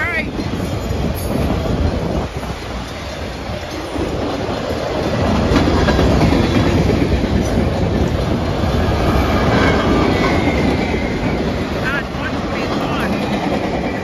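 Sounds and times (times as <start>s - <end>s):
clickety-clack over rail joints: 0.0s - 14.0s
train wheels rumbling on rails: 0.0s - 14.0s.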